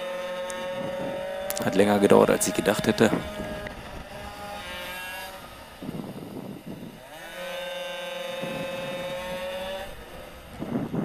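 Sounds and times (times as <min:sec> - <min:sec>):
two-stroke engines racing: 0:00.0 - 0:11.0.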